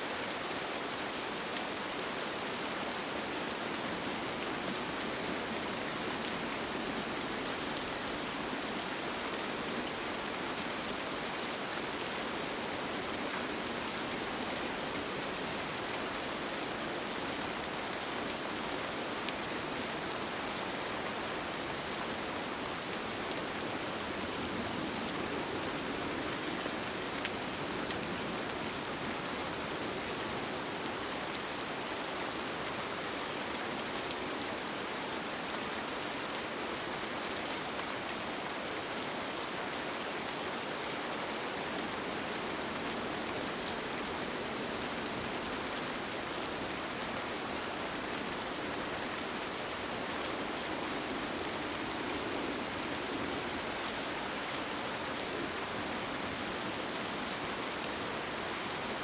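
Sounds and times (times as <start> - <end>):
rain on a tent: 0.0 - 59.0.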